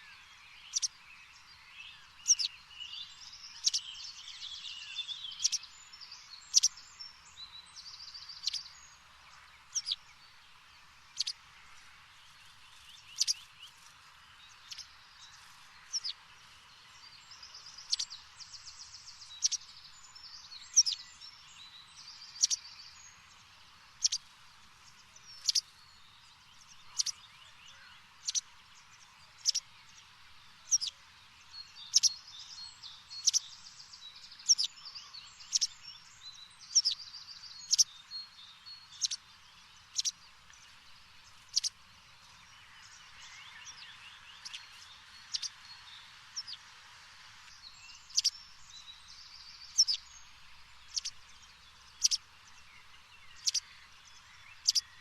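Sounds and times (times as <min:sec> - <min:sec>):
soft warbling bird song: 0:00.0 - 0:55.0.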